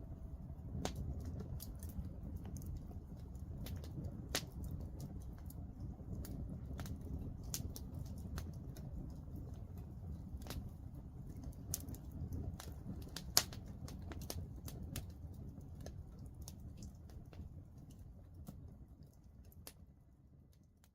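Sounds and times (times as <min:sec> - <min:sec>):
wood fire crackling: 0:00.0 - 0:20.9
flame rushing: 0:00.2 - 0:18.5.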